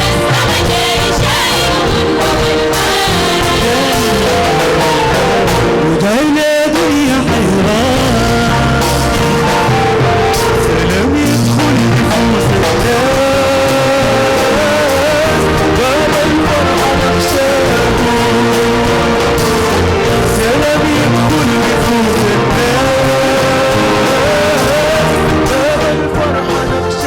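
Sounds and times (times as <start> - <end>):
band playing a hymn: 0.0 - 27.0.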